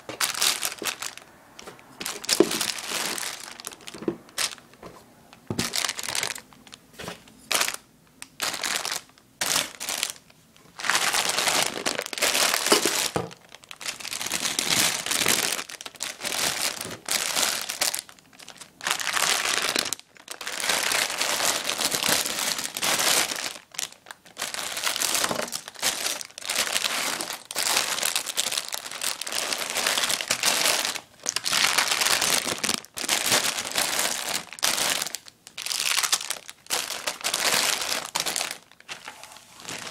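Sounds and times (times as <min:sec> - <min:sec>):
plastic bags crinkling: 0:00.0 - 0:39.9.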